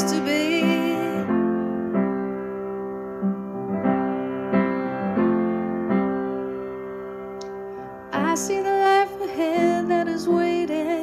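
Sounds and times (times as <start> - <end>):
upright piano chords: 0.0 - 11.0.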